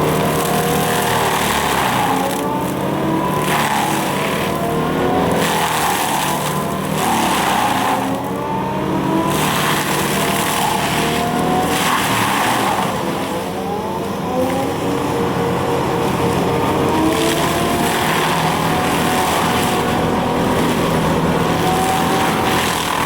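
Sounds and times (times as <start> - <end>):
excavator engine: 0.0 - 23.0
hydraulic mulcher whine: 0.0 - 23.0.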